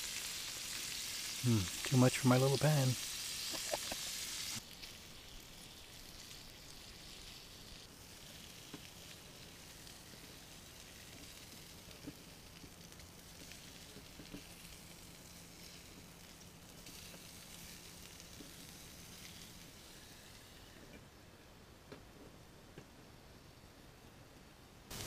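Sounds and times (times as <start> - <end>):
fish sizzling in oil: 0.0 - 20.8.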